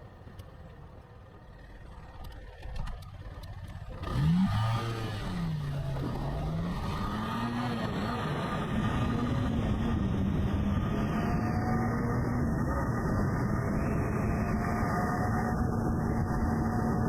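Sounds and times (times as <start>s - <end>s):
motorcycle engine accelerating: 1.5s - 17.0s.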